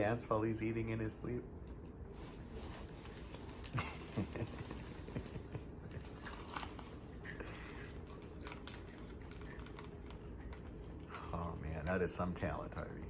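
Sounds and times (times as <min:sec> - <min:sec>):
dog crunching crackers: 0:01.6 - 0:13.0.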